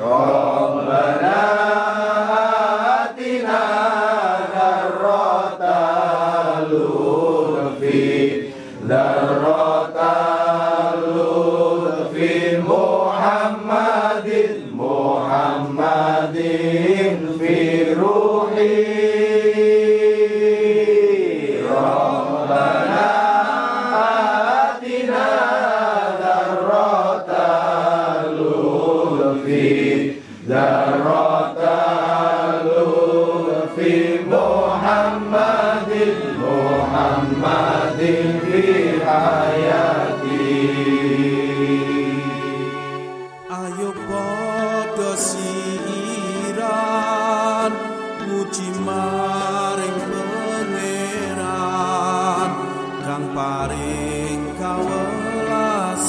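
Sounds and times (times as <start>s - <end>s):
men chanting: 0.0s - 42.8s, 43.5s - 56.0s.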